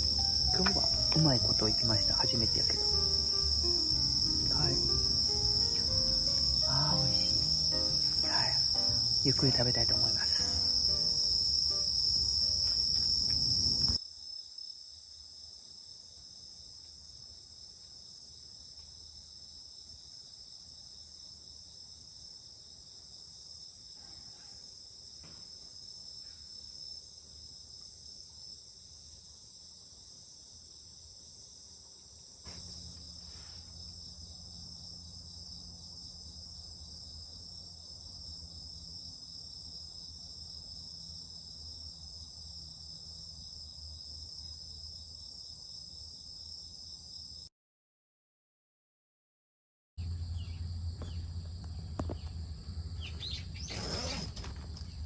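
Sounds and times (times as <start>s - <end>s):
crickets chirring: 0.0s - 47.5s, 50.0s - 55.0s.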